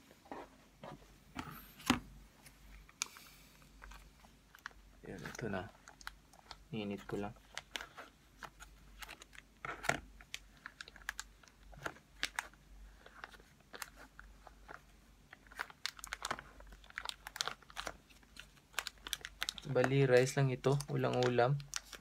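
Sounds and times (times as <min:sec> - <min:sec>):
plastic film crinkling: 0:02.8 - 0:22.0.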